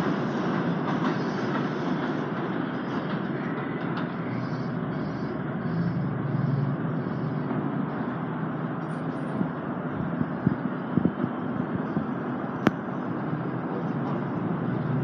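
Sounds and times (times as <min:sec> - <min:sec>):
train rumbling on steel structure: 0:00.0 - 0:15.0.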